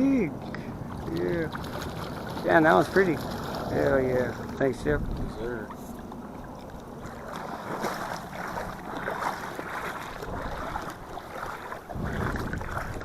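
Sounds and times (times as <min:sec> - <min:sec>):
water splashing: 0:00.0 - 0:13.0
wind buffeting microphone: 0:00.3 - 0:06.4, 0:07.0 - 0:13.0.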